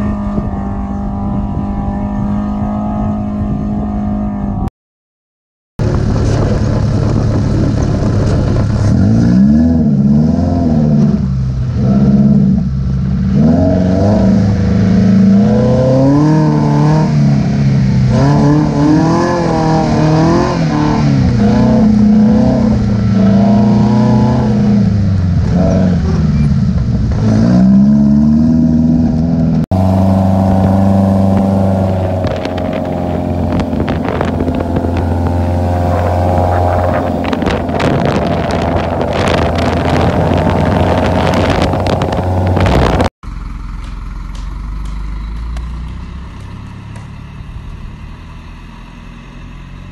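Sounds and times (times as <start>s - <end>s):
dune buggy engine revving: 0.0s - 4.7s, 5.8s - 49.9s.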